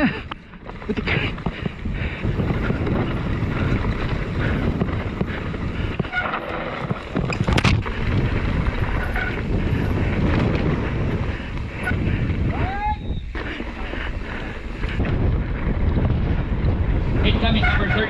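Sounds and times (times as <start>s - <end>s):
bike rattling and clicking: 0.0s - 18.0s
bike tyres on dirt: 0.0s - 18.0s
wind buffeting microphone: 0.0s - 18.0s.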